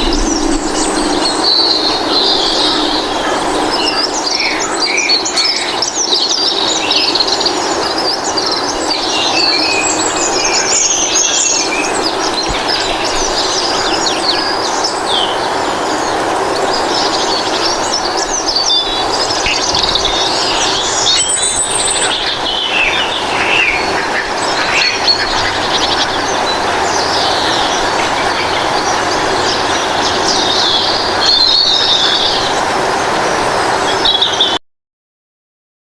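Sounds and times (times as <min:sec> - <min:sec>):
steady rushing background: 0:00.0 - 0:34.2
small birds chirping: 0:00.0 - 0:34.6.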